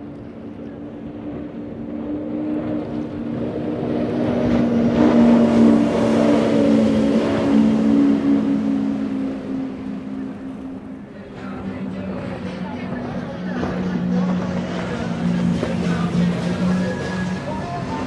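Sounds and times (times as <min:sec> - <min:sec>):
powerboat engines droning: 0:00.0 - 0:18.0.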